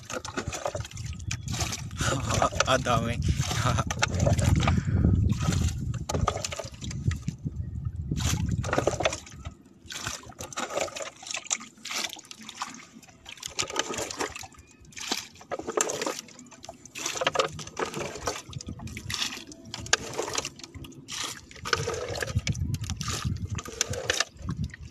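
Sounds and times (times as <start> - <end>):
water splashing and pouring: 0.0 - 24.9.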